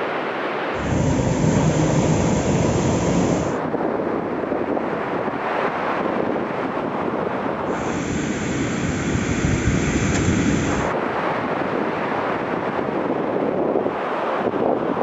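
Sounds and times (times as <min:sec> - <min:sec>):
wind buffeting microphone: 0:00.8 - 0:15.0.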